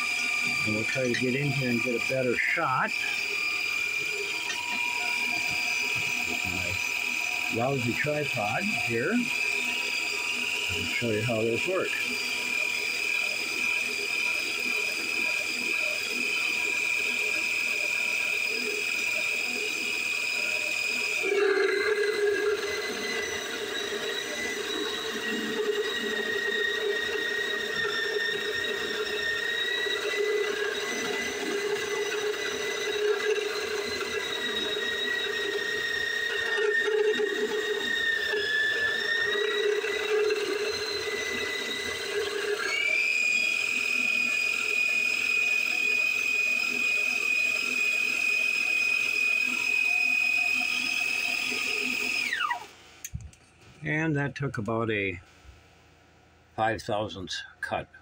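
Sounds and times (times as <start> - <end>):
lathe cutting metal hum: 0.0 - 52.6
small electric motor whining: 0.0 - 53.3.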